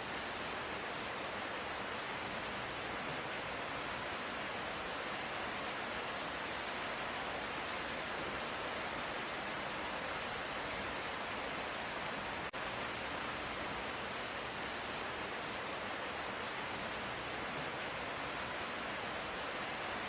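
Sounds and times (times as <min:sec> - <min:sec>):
steady light rain: 0:00.0 - 0:20.0.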